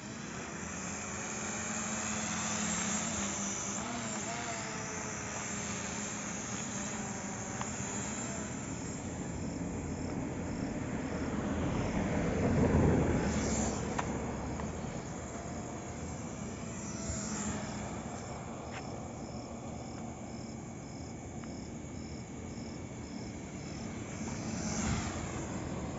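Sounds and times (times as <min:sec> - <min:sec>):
crickets chirping: 0:00.0 - 0:25.9
drone propellers buzzing: 0:00.0 - 0:25.9.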